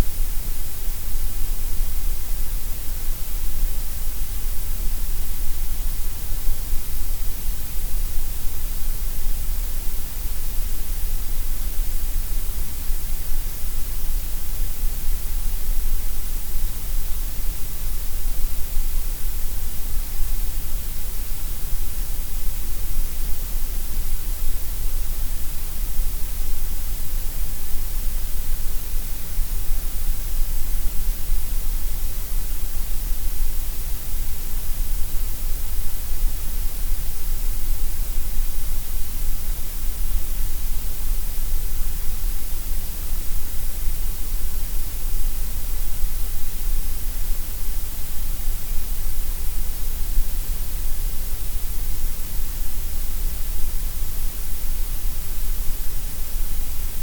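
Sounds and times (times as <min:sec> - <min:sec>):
steady hiss over deep rumble: 0:00.0 - 0:57.0.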